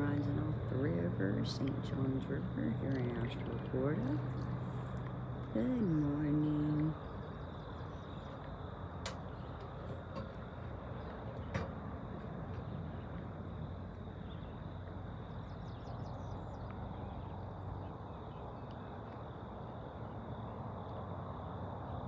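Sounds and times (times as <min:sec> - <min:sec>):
low outdoor rumble by river: 0:00.0 - 0:22.0.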